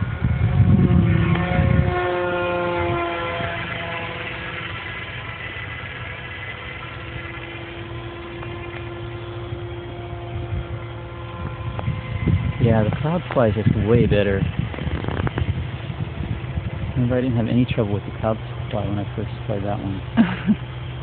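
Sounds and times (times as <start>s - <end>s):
rc plane motor whining: 0.0s - 21.0s.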